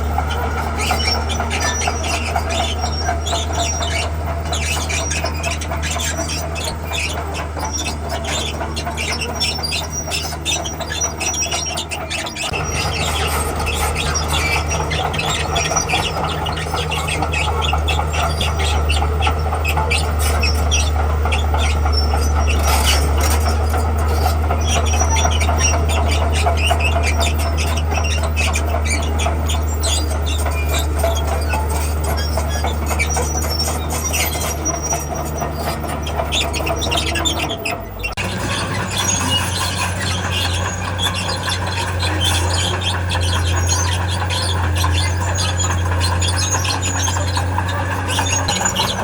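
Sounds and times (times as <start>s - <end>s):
diesel engine drone: 0.0s - 49.0s
steel tracks squealing and clanking: 0.0s - 49.0s.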